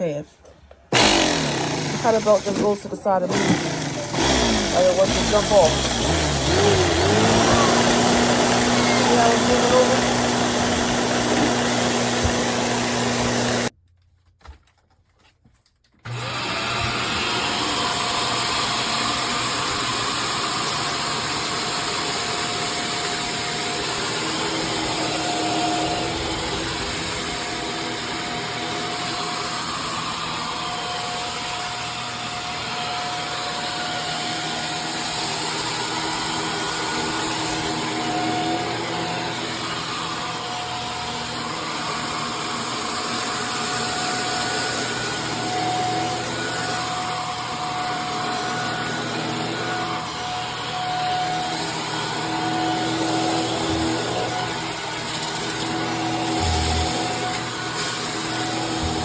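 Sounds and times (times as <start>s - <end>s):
vacuum cleaner running: 0.9s - 13.7s, 16.0s - 59.0s.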